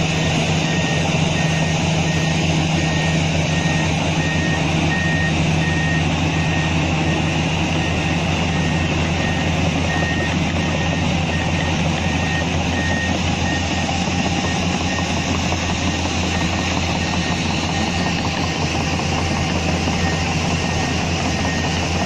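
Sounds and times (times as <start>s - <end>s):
diesel engine running: 0.0s - 22.0s
reversing alarm beeping: 0.0s - 22.0s.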